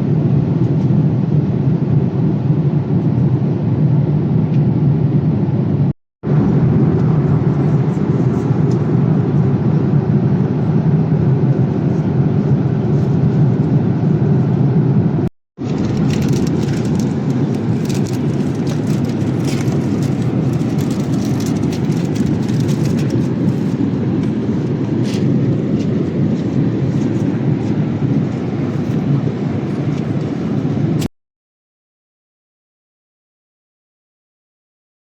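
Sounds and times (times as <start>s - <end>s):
airplane cabin engine rush: 0.0s - 31.1s.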